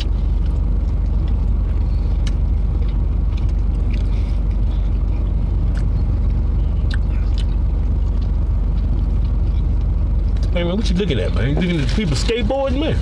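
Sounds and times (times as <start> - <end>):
person chewing: 0.0 - 10.5
car engine idling: 0.0 - 13.0.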